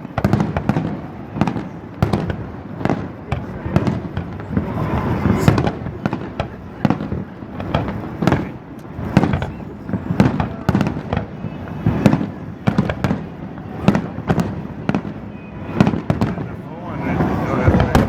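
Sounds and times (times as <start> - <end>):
fireworks bursting with echoes: 0.0 - 18.0.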